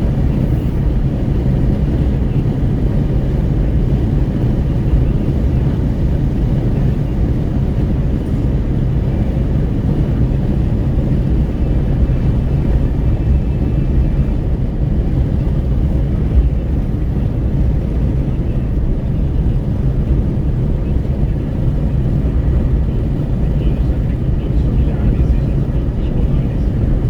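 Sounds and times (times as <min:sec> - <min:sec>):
wind rushing through car window: 0:00.0 - 0:27.0.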